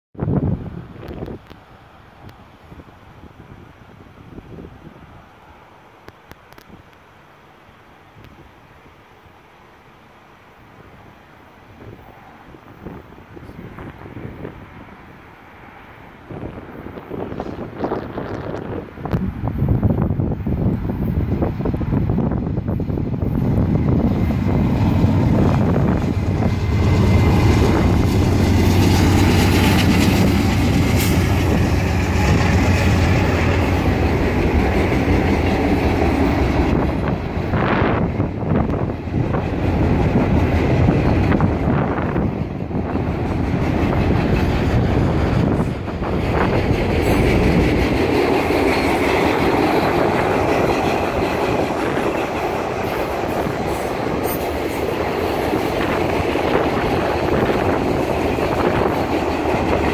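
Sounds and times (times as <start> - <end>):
diesel locomotive engine droning: 10.8 - 59.9
train wheels on rails: 11.8 - 59.9.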